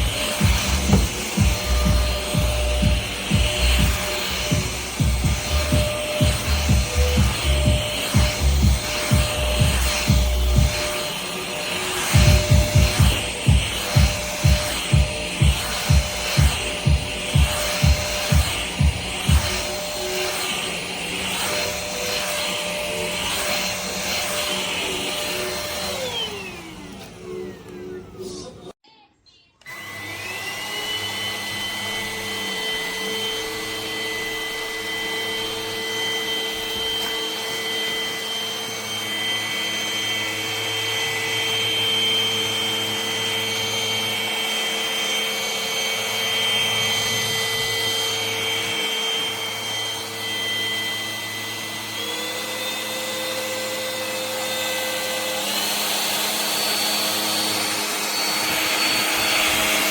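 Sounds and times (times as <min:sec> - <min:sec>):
vacuum cleaner motor whining: 0:00.0 - 0:28.8, 0:29.6 - 0:59.9.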